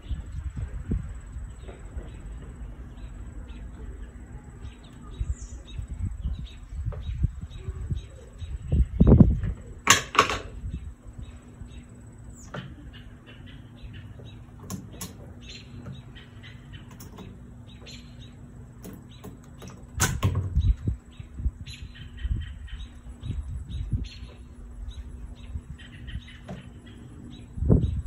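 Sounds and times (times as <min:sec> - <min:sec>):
small birds chirping: 0:00.0 - 0:09.9, 0:10.5 - 0:28.0.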